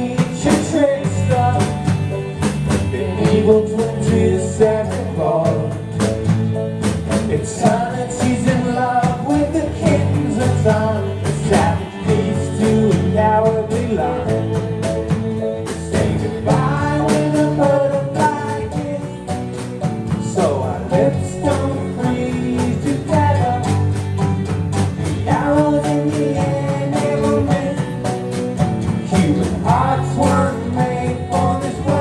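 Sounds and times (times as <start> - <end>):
gliding melody line: 0.0 - 32.0
guitar: 0.0 - 32.0
steady drum beat: 0.0 - 32.0.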